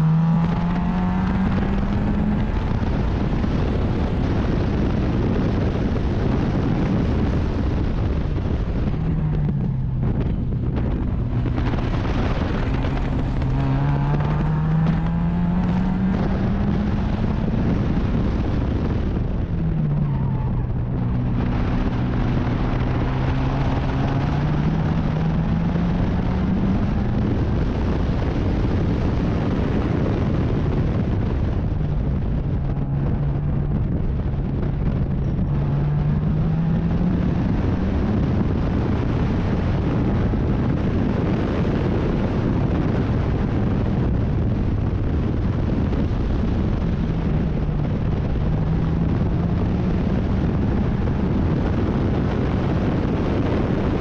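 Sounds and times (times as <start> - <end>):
racing car engine accelerating: 0.0 - 54.0
wind and road noise: 0.0 - 54.0.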